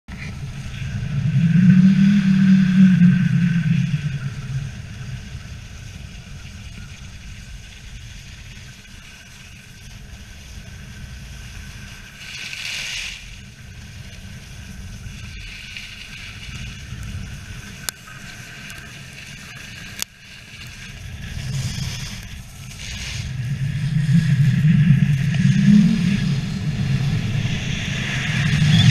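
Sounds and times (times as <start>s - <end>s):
wind rumbling on microphone: 0.1s - 28.9s
skis scraping over snow: 4.1s - 28.9s.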